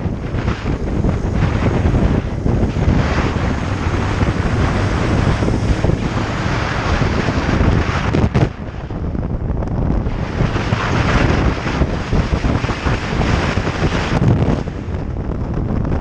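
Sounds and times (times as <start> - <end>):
motorcycle engine: 0.0 - 16.0
road noise: 0.0 - 16.0
wind buffeting microphone: 0.0 - 16.0.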